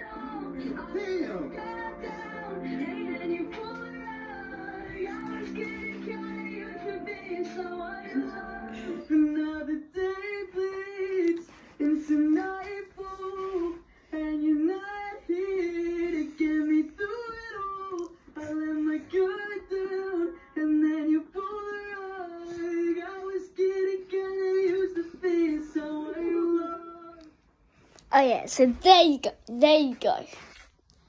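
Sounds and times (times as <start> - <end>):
person singing through a tv: 0.0 - 30.8.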